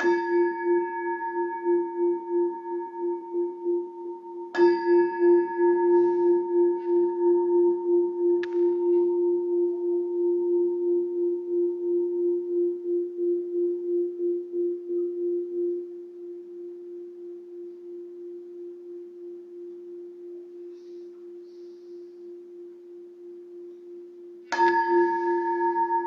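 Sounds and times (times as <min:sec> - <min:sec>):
singing bowl ringing: 0:00.0 - 0:26.0.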